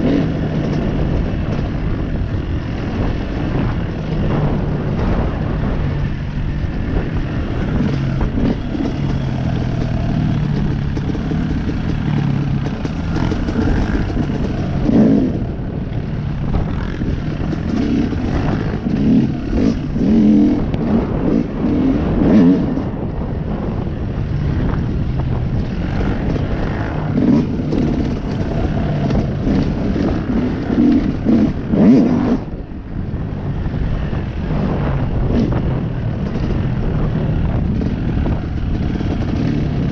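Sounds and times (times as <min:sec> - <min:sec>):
dirt bike engine revving: 0:00.0 - 0:32.7, 0:34.0 - 0:39.9
wind on microphone: 0:00.0 - 0:39.9.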